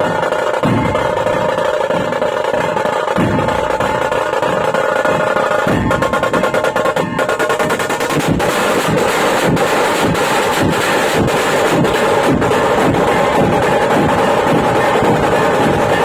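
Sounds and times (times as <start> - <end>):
drumming: 0.0 - 16.0.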